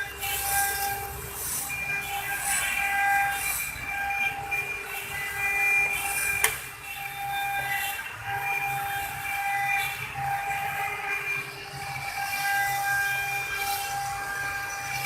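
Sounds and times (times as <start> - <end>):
engraving machine whine: 0.0 - 15.0
steady machine hum: 0.0 - 15.0.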